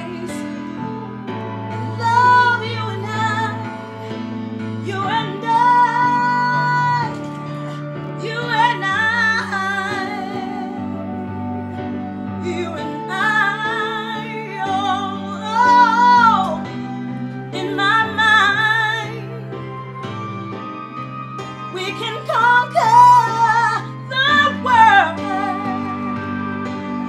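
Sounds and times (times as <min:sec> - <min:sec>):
woman singing with vibrato: 0:00.0 - 0:20.0, 0:21.7 - 0:27.0
instrumental backing: 0:00.0 - 0:27.0.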